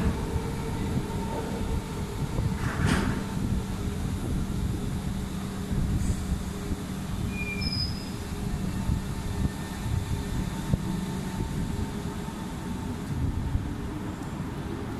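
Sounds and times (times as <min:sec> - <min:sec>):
metro train rumble: 0:00.0 - 0:14.9.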